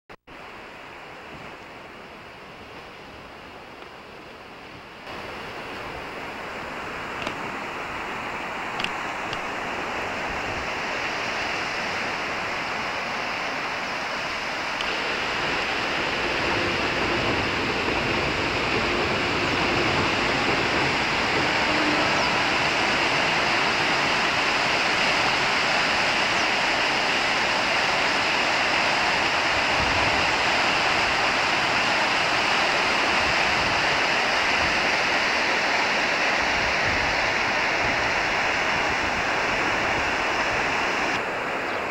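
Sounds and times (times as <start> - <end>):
sea surf on the shore: 0.3 - 41.9.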